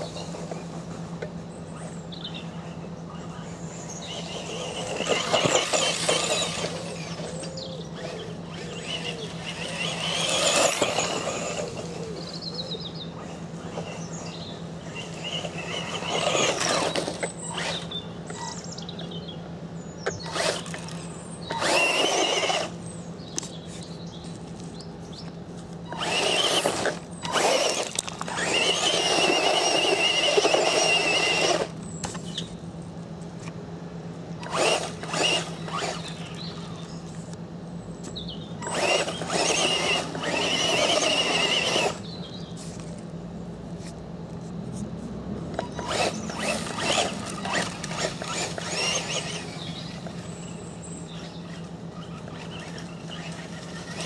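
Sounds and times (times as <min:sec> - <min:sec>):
rc car motors whining: 0:00.0 - 0:32.6, 0:34.4 - 0:37.4, 0:38.0 - 0:43.1, 0:45.5 - 0:54.0.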